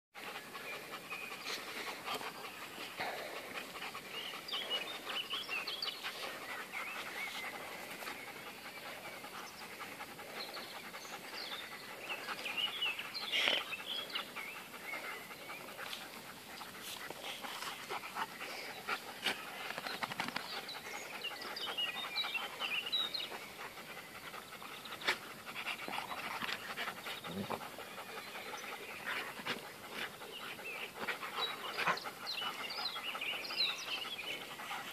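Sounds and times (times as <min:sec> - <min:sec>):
dogs panting: 0:00.2 - 0:34.9.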